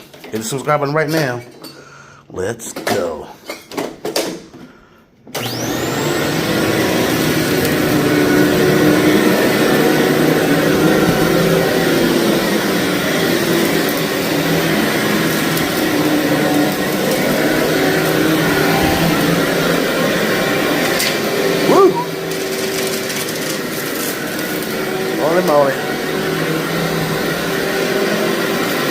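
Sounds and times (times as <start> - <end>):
vacuum cleaner running on carpet: 5.4 - 28.9.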